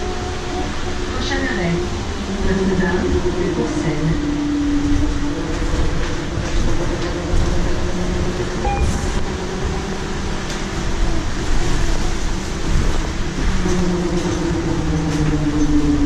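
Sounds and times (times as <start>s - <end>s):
constant hum: 0.0s - 16.0s
low road rumble: 0.0s - 16.0s.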